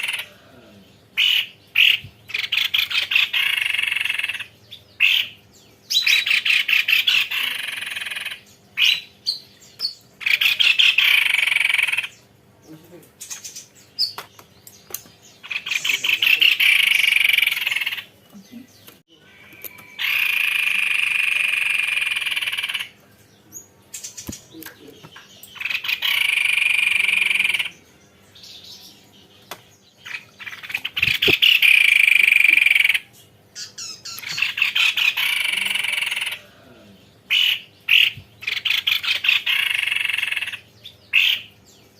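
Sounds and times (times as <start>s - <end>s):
bird chirps: 0.0s - 41.9s
bird singing rolling trills: 0.0s - 41.9s.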